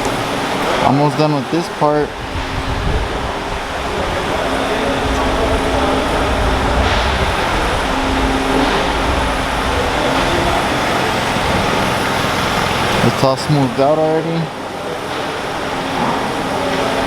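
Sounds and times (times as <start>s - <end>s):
faint hum: 0.0s - 17.0s
truck engine rumbling: 0.0s - 17.0s.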